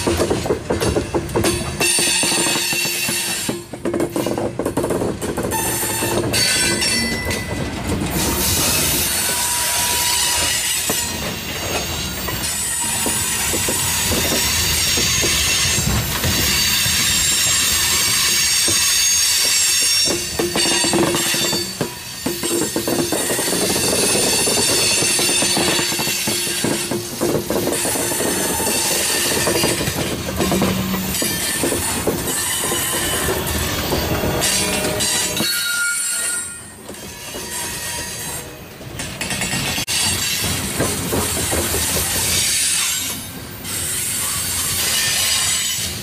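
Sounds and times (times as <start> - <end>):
wheels clattering on rail: 0.0 - 46.0
train wheels squealing: 1.8 - 3.6, 5.5 - 38.5, 41.4 - 46.0.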